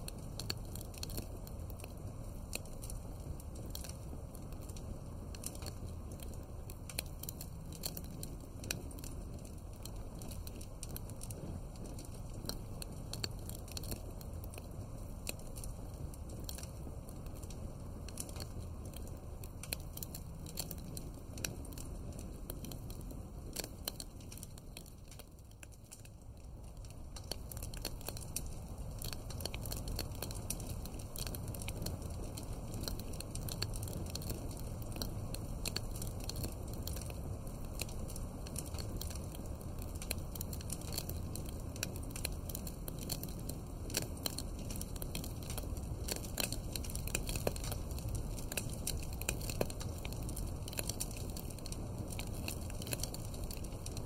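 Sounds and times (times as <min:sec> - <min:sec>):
low steady fire rumble: 0:00.0 - 0:54.0
wood fire crackling and popping: 0:00.0 - 0:54.0.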